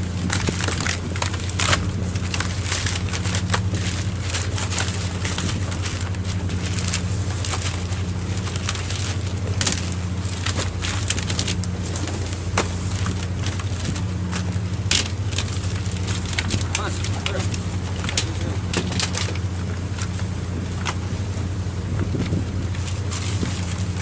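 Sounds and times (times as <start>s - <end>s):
boat machinery droning: 0.0s - 24.0s.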